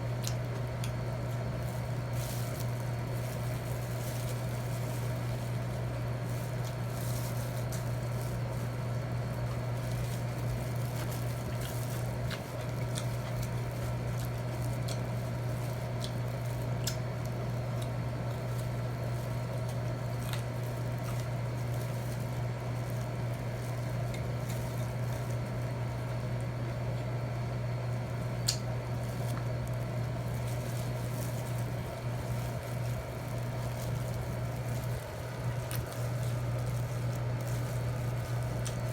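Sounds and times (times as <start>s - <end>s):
wet chewing: 0.2s - 25.8s, 28.4s - 38.9s.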